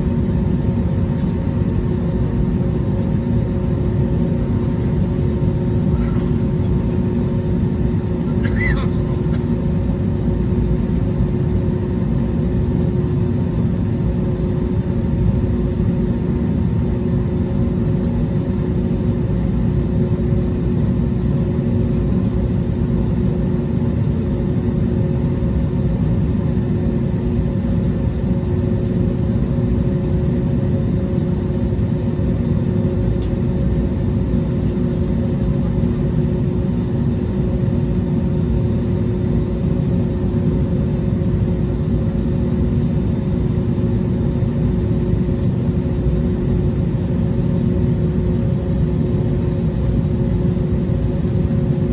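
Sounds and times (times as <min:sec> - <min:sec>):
airliner engine rumble: 0:00.0 - 0:51.9.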